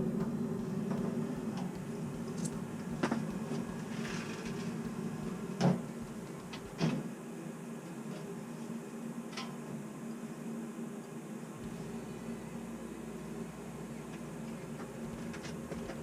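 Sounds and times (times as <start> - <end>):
boiler low hum: 0.0 - 16.0.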